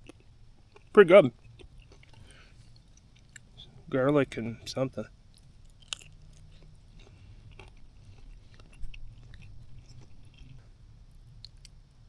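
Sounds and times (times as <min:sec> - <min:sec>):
person chewing: 0:00.0 - 0:04.7, 0:05.3 - 0:11.8.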